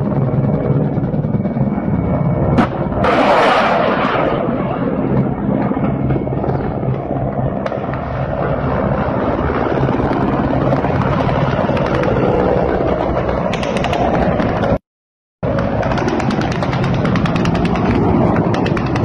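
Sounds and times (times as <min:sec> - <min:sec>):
helicopters flying past: 0:00.0 - 0:14.8, 0:15.4 - 0:19.0.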